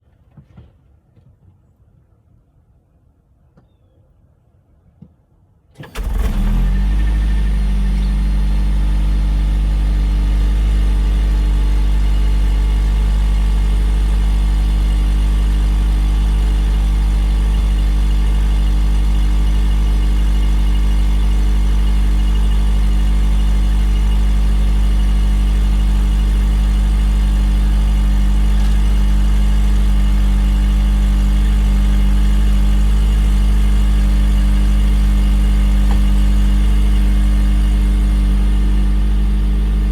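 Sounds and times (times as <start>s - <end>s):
car engine starting and idling: 5.8s - 39.9s.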